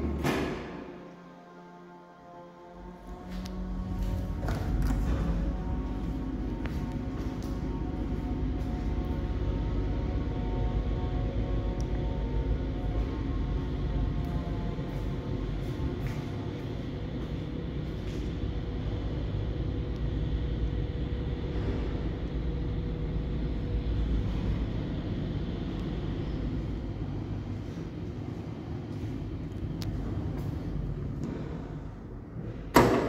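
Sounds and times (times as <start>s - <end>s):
lift rumbling with faint hum: 2.2s - 33.0s.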